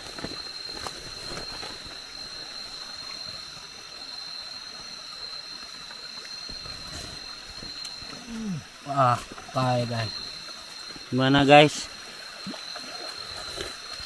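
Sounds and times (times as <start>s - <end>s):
background hiss: 0.0s - 14.0s
high-pitched insect drone: 0.0s - 14.0s.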